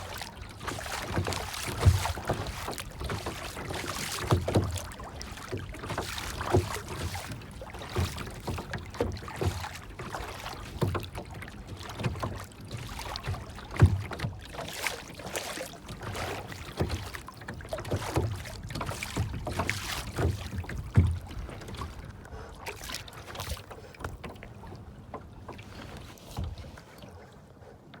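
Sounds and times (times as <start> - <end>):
water lapping and splashing: 0.0 - 28.0.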